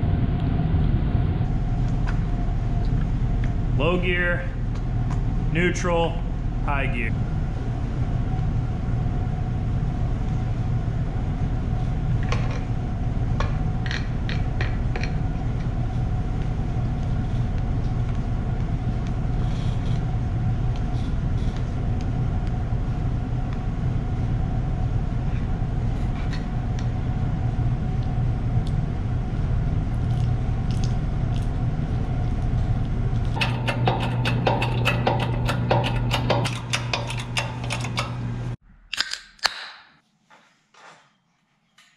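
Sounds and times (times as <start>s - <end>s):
steady mechanical hum: 0.0s - 38.6s.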